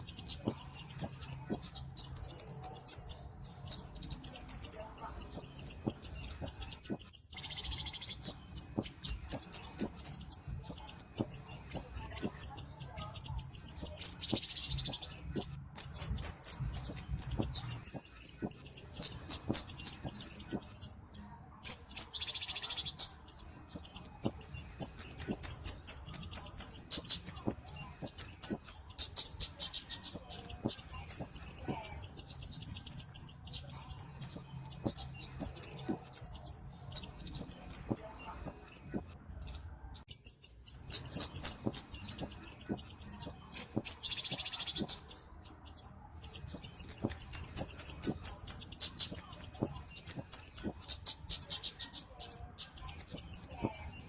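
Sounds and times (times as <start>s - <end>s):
high ticking bird chirps: 0.0s - 54.0s.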